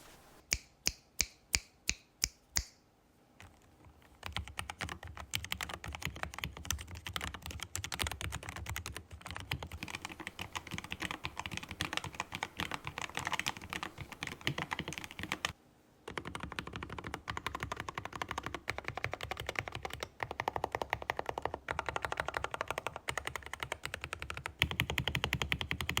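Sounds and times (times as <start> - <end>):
fast mechanical keyboard typing: 4.2 - 26.0.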